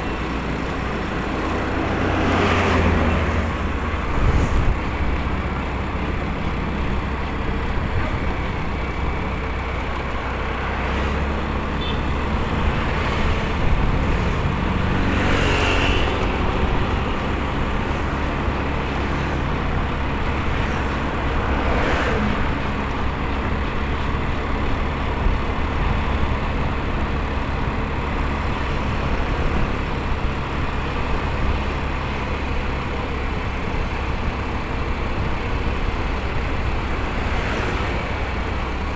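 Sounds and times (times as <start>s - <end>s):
motorcycle engine and wind rumble: 0.0s - 38.9s
vehicles passing: 0.0s - 38.9s.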